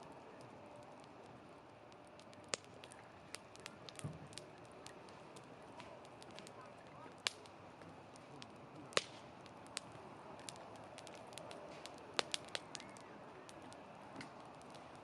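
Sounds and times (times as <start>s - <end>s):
campfire crackling: 0.0s - 15.0s
fire pops: 0.0s - 15.0s
steady low hiss: 0.0s - 15.0s.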